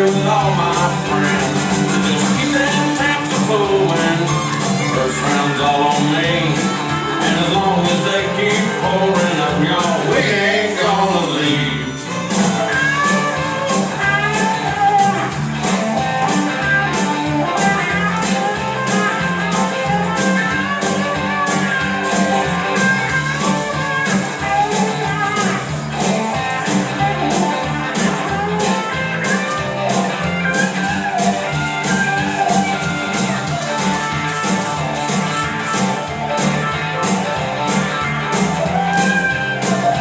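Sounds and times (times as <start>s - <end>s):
guitar over a steady beat: 0.0s - 40.0s.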